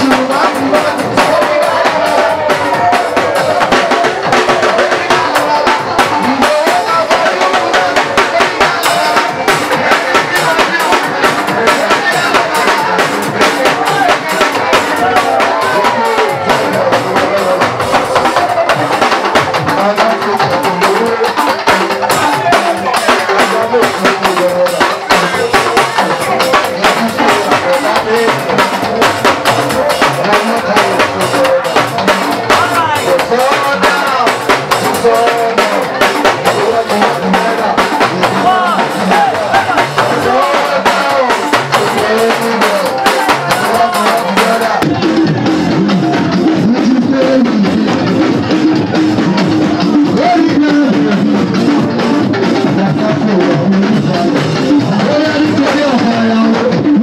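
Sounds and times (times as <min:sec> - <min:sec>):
dance music with drum beat: 0:00.0 - 0:57.0.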